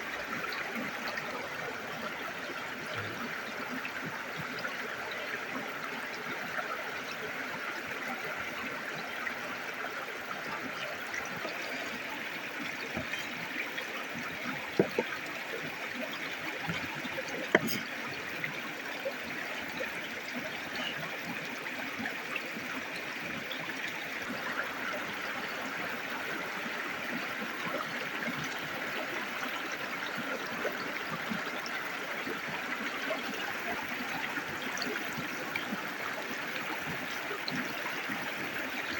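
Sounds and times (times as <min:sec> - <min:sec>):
river water trickling: 0:00.0 - 0:38.9.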